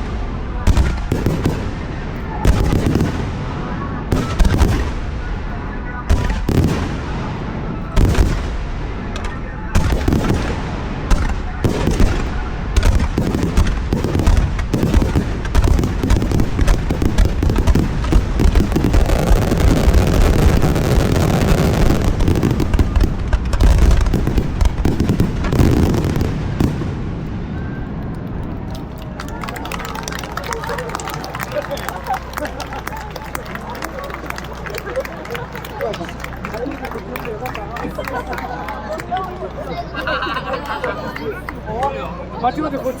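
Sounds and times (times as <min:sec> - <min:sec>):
fireworks bursting: 0:00.0 - 0:37.2.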